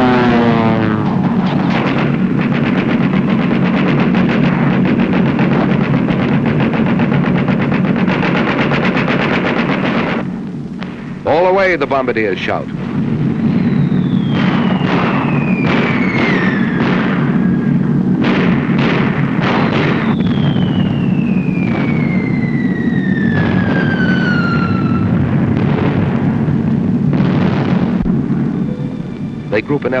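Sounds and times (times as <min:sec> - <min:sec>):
bombs whistling down: 0:00.0 - 0:09.1, 0:12.9 - 0:26.4, 0:27.1 - 0:30.0
explosions: 0:00.0 - 0:30.0
steady low rumble: 0:00.0 - 0:30.0.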